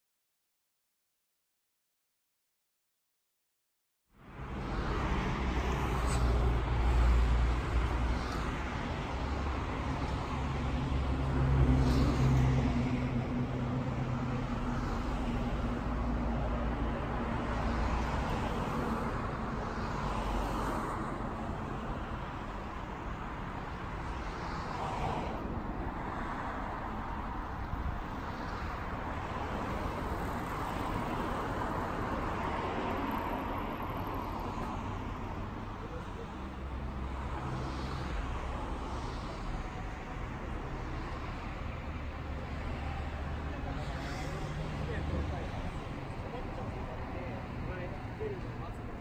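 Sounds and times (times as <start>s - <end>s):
cars passing: 4.2s - 49.0s.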